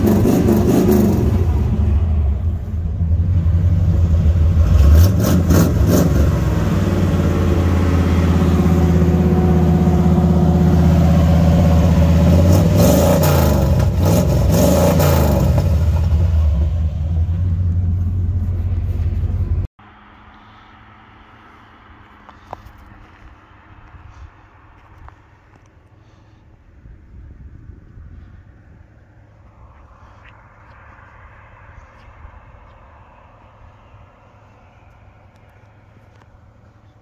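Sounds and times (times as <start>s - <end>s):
pickup truck engine and exhaust: 0.0s - 37.0s.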